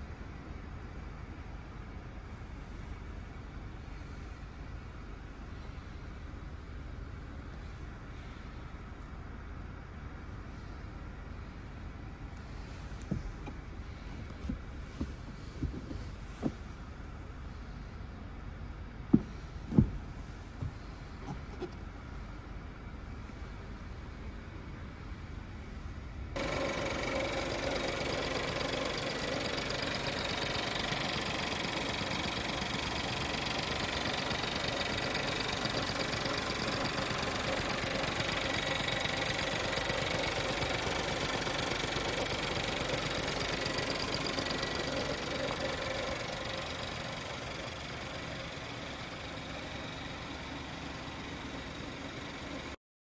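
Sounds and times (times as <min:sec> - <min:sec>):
car engine idling: 0:00.0 - 0:52.8.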